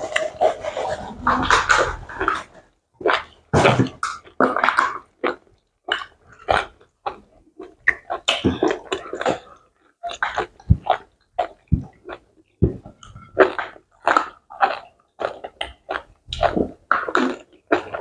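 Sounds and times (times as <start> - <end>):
wet eating and slurping: 0.0 - 18.0.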